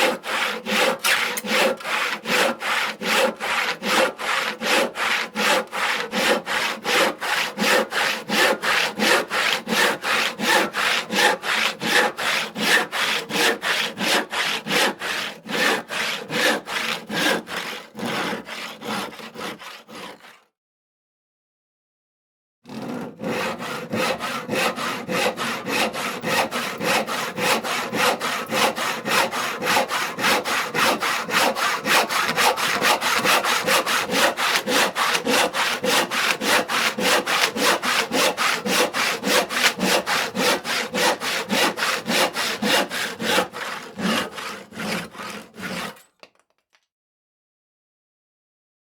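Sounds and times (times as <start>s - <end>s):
hand saw cutting wood: 0.0s - 20.5s, 22.7s - 46.4s.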